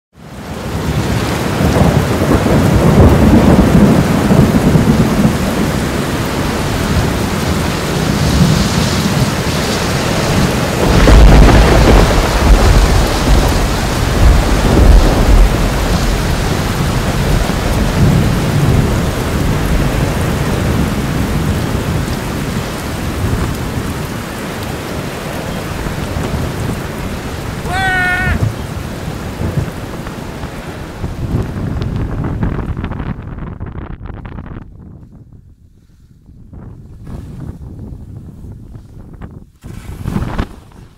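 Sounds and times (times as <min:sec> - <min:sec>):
wind buffeting microphone: 0:00.3 - 0:40.9.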